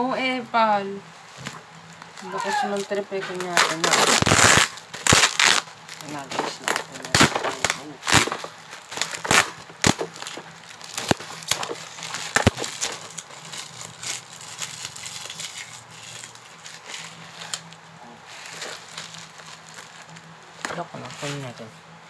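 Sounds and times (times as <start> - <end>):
bubble wrap crinkling and cracking: 1.2 - 21.7.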